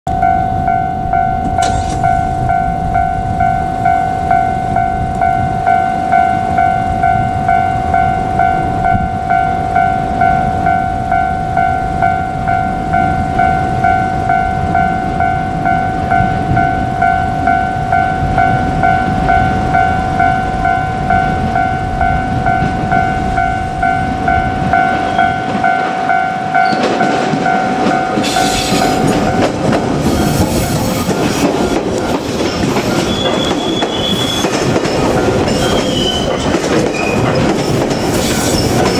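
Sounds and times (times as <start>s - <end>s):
electric train running: 0.1s - 38.9s
level-crossing warning bell: 0.1s - 38.9s.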